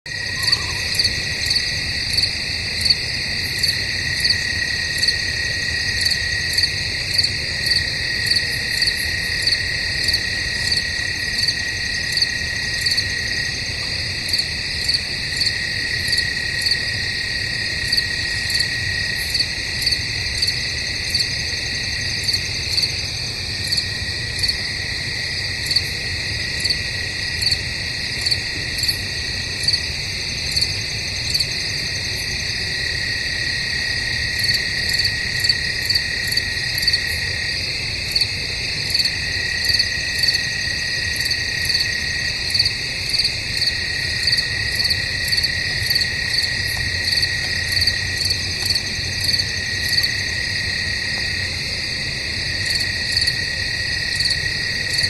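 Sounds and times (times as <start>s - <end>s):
continuous cricket trill: 0.1s - 55.0s
cricket chirping: 0.1s - 55.0s.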